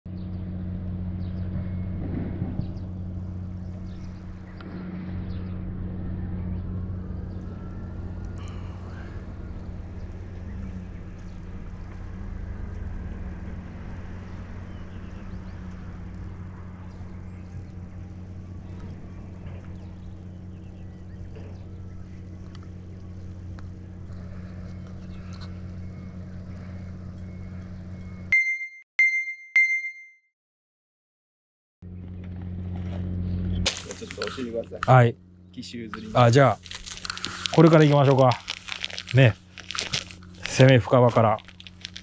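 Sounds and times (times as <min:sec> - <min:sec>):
low engine hum: 0:00.1 - 0:28.3, 0:31.8 - 0:42.0.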